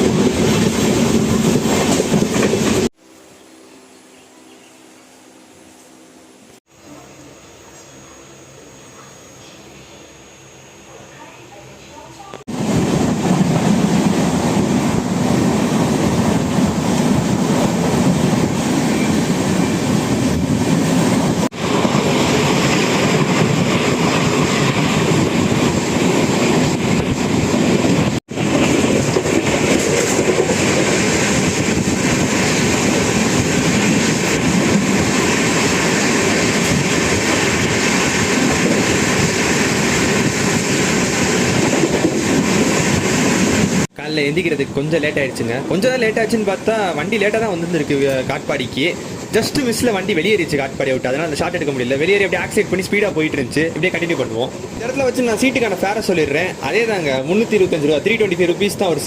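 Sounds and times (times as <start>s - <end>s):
train wheels rushing on rails: 0.0s - 3.0s, 12.3s - 59.0s.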